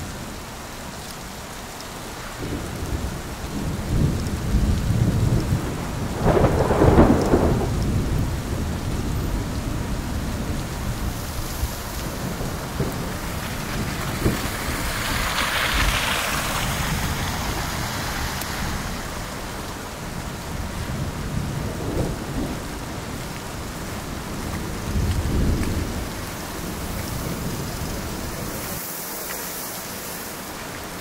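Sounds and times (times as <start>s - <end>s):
traffic on slushy streets: 0.0s - 31.0s
wind hiss: 0.0s - 31.0s.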